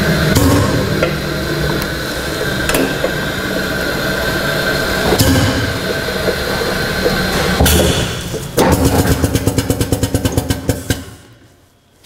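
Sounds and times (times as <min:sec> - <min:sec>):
hydraulic power unit running with hiss: 0:00.0 - 0:11.4.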